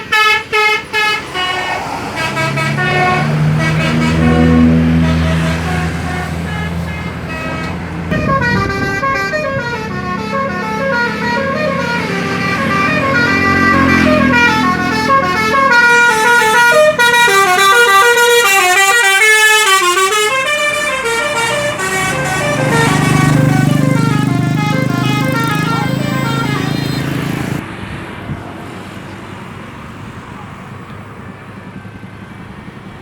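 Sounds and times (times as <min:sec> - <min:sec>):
multi-tone bus horn melody: 0:00.0 - 0:27.6
bus engine hum: 0:00.0 - 0:33.0.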